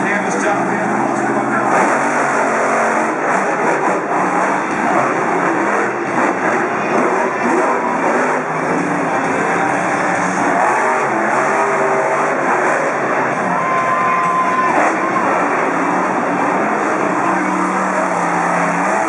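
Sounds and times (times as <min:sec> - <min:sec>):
monster truck engines revving: 0:00.0 - 0:19.0.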